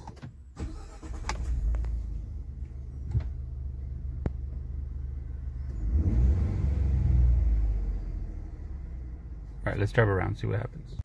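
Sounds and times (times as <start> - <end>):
truck engine revving: 0.7 - 9.6.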